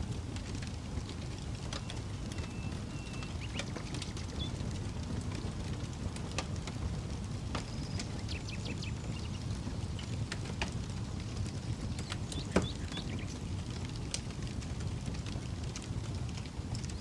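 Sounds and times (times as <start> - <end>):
campfire crackling: 0.0 - 17.0
fire popping: 0.0 - 17.0.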